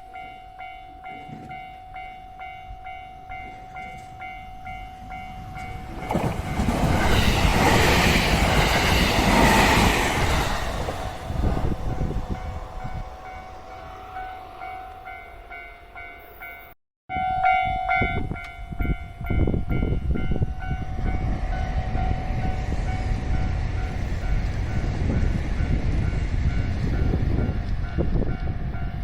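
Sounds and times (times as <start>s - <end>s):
train rumbling past: 0.2s - 29.0s.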